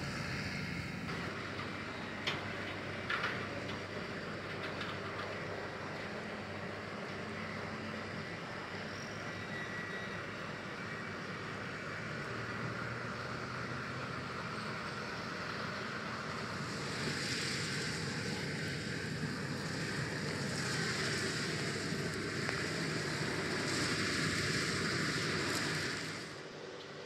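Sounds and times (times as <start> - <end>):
combine harvester hiss: 0.0 - 27.0
tractor engine hum: 0.0 - 27.0.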